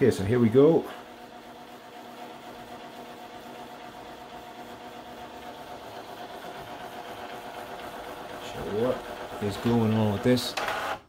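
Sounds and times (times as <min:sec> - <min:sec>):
inkjet printer humming: 0:00.0 - 0:11.0.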